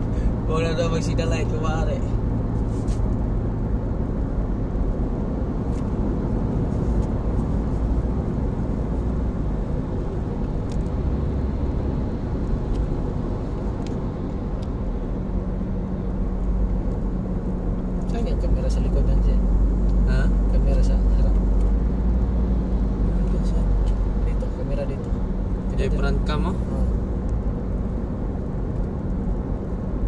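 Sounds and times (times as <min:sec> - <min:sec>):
car cabin road and engine drone: 0:00.0 - 0:30.0.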